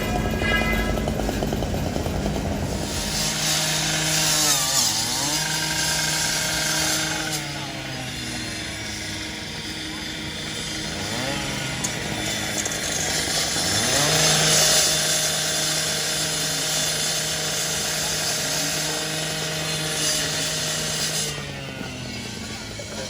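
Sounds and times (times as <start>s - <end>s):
two-stroke saw engine revving: 0.0s - 23.0s.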